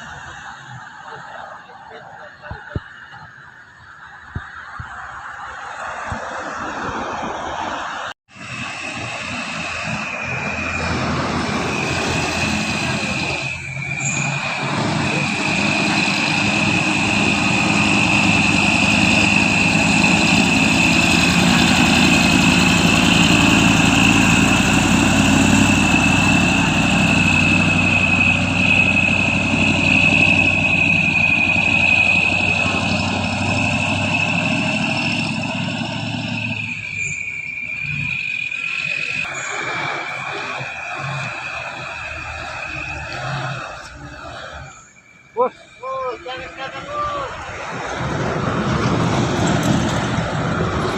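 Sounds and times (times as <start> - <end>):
high-pitched whine: 0.0 - 50.9
heavy truck engine running: 6.1 - 50.9.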